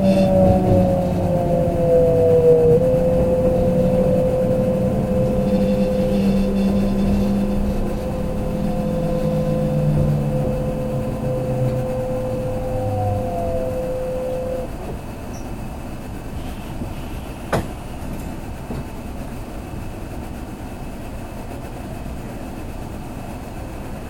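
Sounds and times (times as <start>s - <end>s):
train motor whine: 0.0s - 19.5s
train interior hum: 0.0s - 24.0s.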